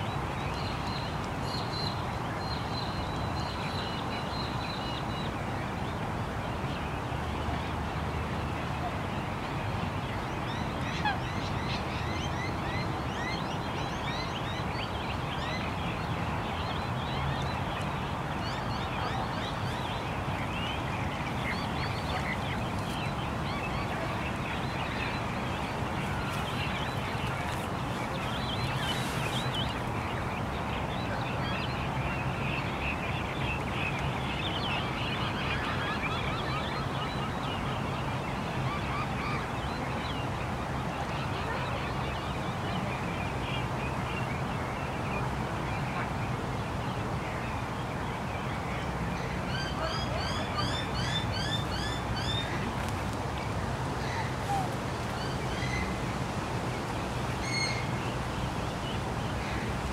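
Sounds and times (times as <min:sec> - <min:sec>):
birds chirping: 0:00.0 - 0:59.9
distant traffic hum: 0:00.0 - 0:59.9.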